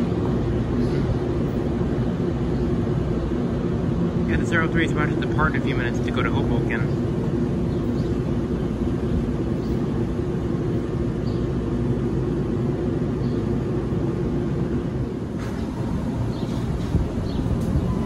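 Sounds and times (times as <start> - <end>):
electric train humming: 0.0 - 18.0.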